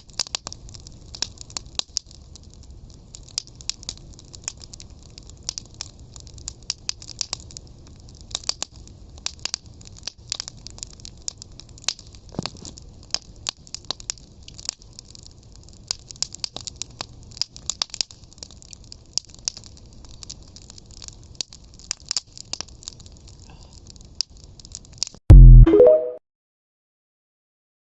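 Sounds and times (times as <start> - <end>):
wood fire crackling and popping: 0.0 - 25.2.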